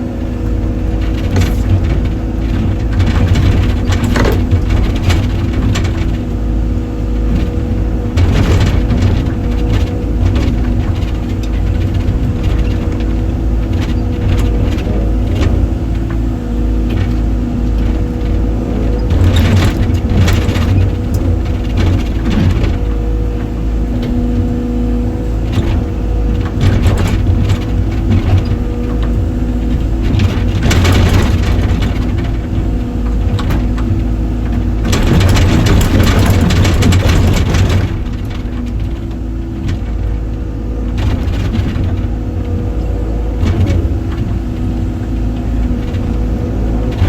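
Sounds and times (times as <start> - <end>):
excavator engine under load: 0.0 - 47.0
cracking and scraping: 0.4 - 47.0.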